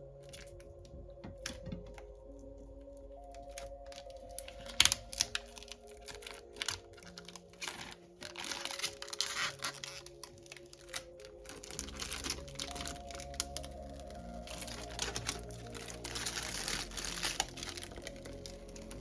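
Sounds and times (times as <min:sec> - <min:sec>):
crinkling: 0:00.0 - 0:19.0
soft background music: 0:00.0 - 0:19.0.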